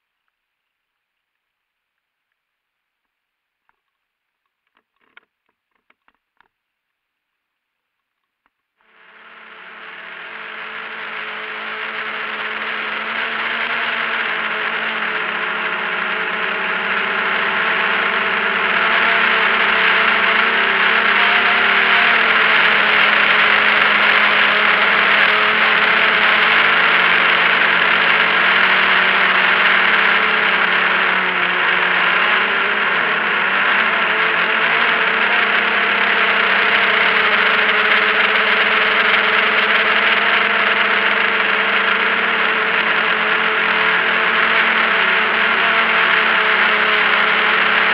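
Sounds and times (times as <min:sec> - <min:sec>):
drone motors whining: 0:08.8 - 0:47.9.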